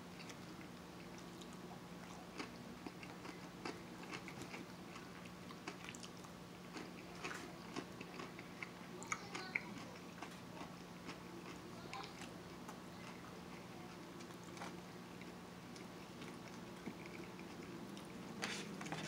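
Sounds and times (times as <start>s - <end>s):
faint low hum: 0.0s - 19.0s
chewing and biting food: 0.1s - 19.0s.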